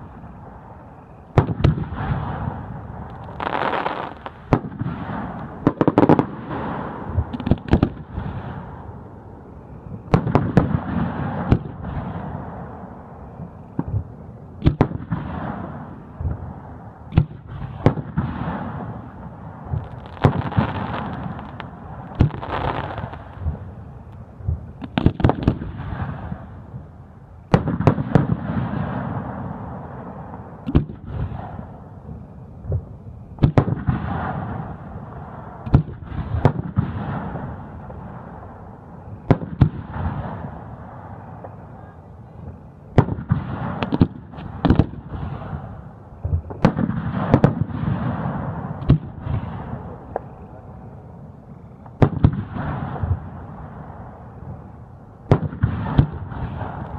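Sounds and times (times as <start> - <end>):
firework bangs: 0.0 - 9.2, 9.9 - 26.9, 27.5 - 50.6, 51.8 - 56.9
firework crackle and rumble: 0.0 - 56.9.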